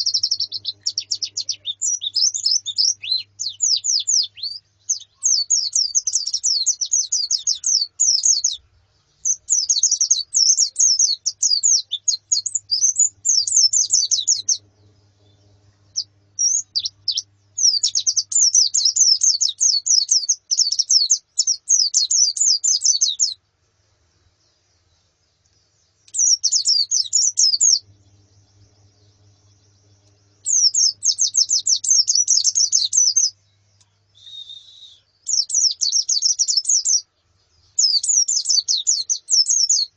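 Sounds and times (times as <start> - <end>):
birds chirping high notes: 0.0 - 8.6, 9.2 - 23.3, 25.7 - 39.9.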